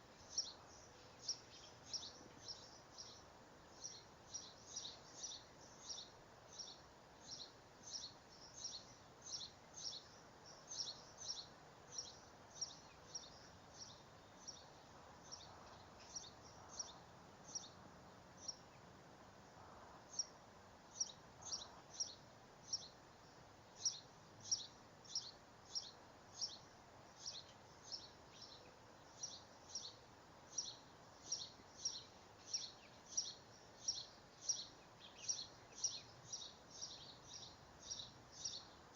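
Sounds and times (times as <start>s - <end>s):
bird chirping: 0.0s - 18.9s, 20.0s - 38.9s
faint outdoor hiss: 0.0s - 38.9s.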